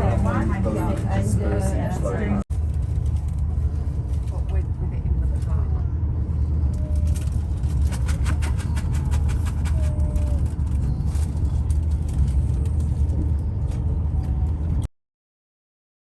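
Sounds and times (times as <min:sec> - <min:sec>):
train rumble inside carriage: 0:00.0 - 0:14.9.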